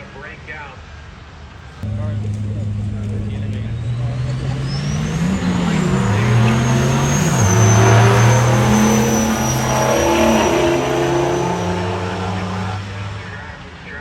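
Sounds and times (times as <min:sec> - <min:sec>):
diesel truck engine under load: 0:01.8 - 0:13.4.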